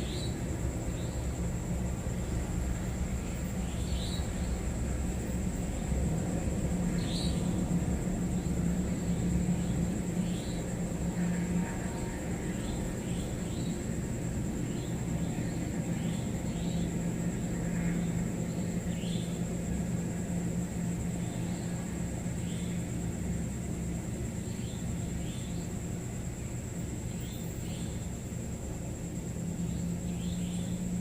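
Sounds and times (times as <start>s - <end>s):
low hum and rumble: 0.0s - 31.0s.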